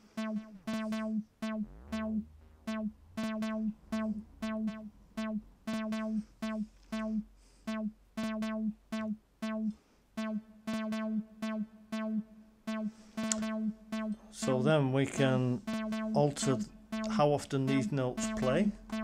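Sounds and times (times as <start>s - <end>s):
sequenced synth notes: 0.0s - 19.0s.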